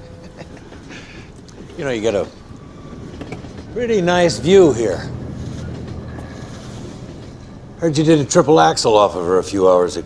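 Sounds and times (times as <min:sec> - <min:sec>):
steady low hum: 0:00.6 - 0:10.0
soft wash of noise: 0:01.2 - 0:10.0.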